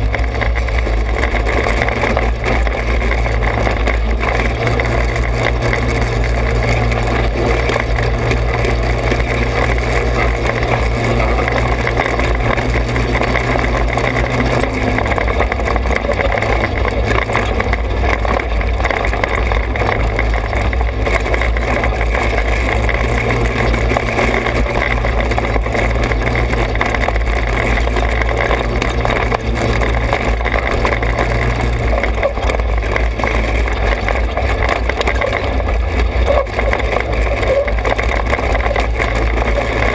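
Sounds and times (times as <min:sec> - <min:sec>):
go-kart engine running: 0:00.0 - 0:39.9
tyre and trail noise: 0:00.0 - 0:39.9.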